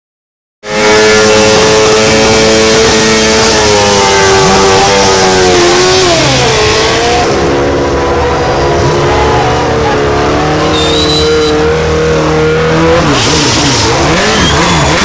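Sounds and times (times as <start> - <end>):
motorcycle engine revving: 0.6 - 15.0.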